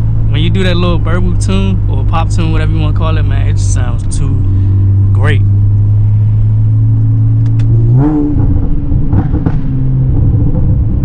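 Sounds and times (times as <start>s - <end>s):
car engine revving: 0.0s - 11.0s
exhaust crackling pops: 0.0s - 11.0s.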